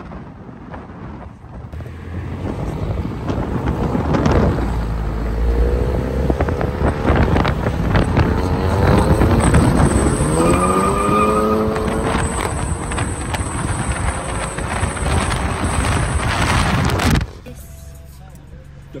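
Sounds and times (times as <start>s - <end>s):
wind on microphone: 0.0s - 17.4s
car engine accelerating: 1.7s - 19.0s.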